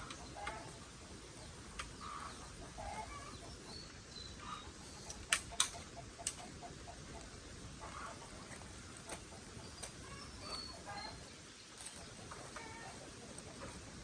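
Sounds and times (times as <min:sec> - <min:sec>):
chickens clucking: 0:00.0 - 0:14.0
small birds chirping: 0:00.0 - 0:14.0.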